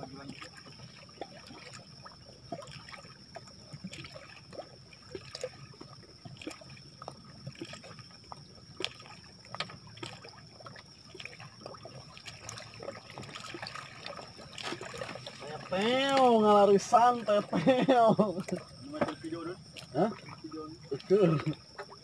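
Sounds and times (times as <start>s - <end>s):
light ticks and splashes: 0.0s - 22.0s
water lapping and trickling: 0.0s - 22.0s.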